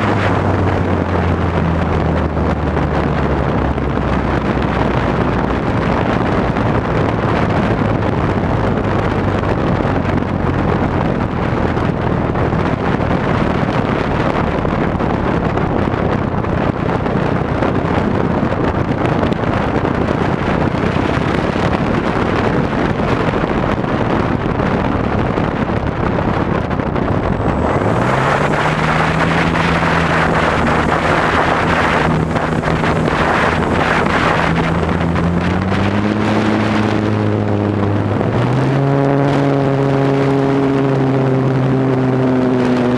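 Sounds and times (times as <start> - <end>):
airplane engine and propeller droning: 0.0 - 42.9
wind rushing over microphone: 0.0 - 42.9.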